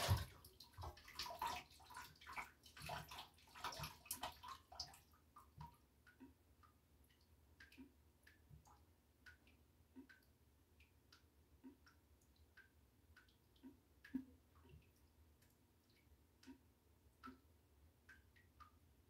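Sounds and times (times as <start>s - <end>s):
water sloshing in bathtub: 0.0s - 18.8s
drops falling into bathwater: 0.0s - 18.9s.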